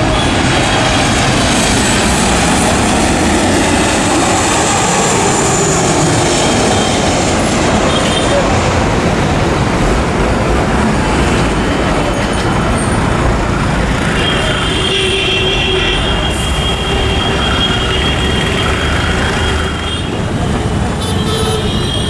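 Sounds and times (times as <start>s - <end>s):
jet engine rumble: 0.0s - 20.9s.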